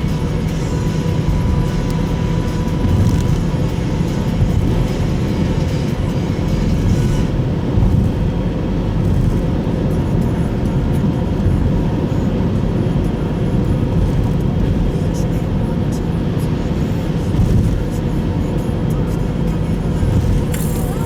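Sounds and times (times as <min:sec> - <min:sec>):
in-cabin engine and road rumble: 0:00.0 - 0:21.0.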